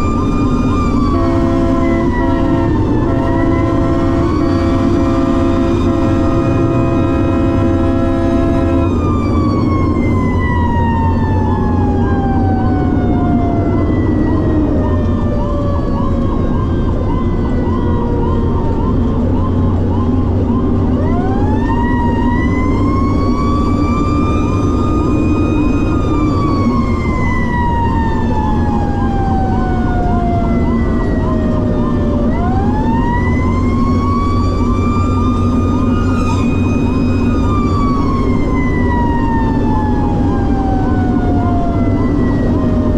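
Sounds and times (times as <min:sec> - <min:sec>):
fire engine siren wailing: 0:00.0 - 0:42.9
truck engine rumbling: 0:00.0 - 0:42.9
warbling siren tone: 0:00.0 - 0:42.9.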